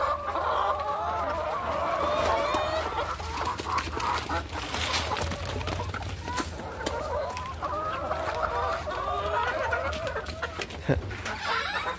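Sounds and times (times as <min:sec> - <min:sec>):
hens clucking: 0:00.0 - 0:11.9.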